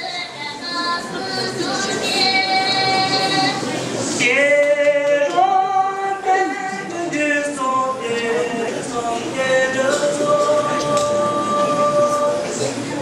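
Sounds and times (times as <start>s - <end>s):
students singing: 0.0s - 13.0s.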